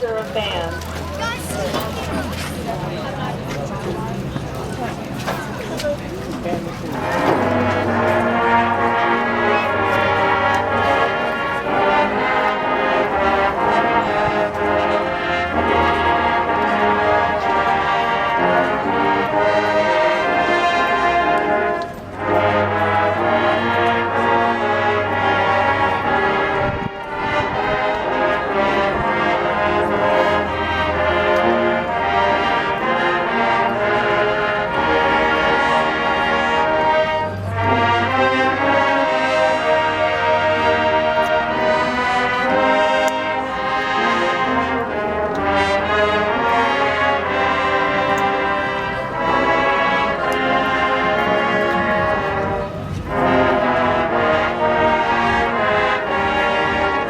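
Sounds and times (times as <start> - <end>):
marching band brass playing: 0.0 - 57.0.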